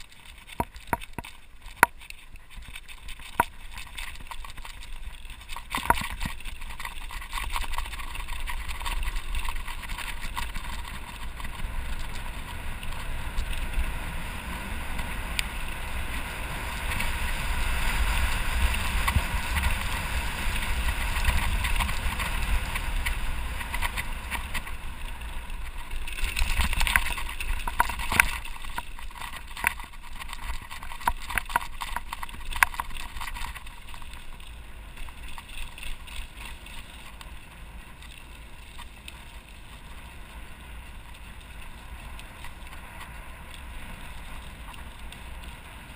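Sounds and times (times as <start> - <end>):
bike rattling and knocking: 0.0 - 45.9
bike tyres rolling over gravel: 0.0 - 45.9.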